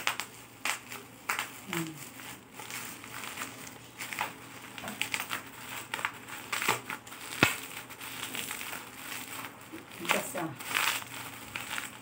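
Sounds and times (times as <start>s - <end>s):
bubble wrap crinkling: 0.0s - 12.0s
bubble wrap snap: 0.0s - 12.0s.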